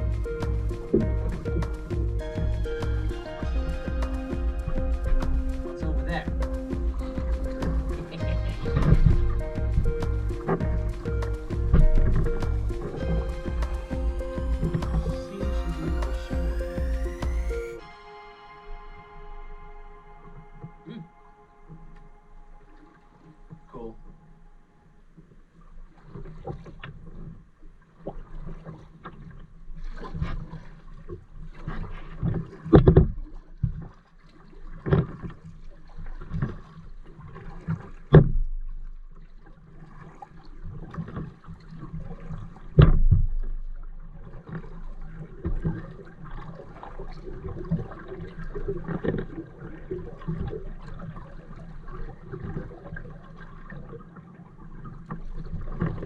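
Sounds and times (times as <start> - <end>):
paddle strokes splashing in water: 0.0 - 18.0, 25.7 - 56.0.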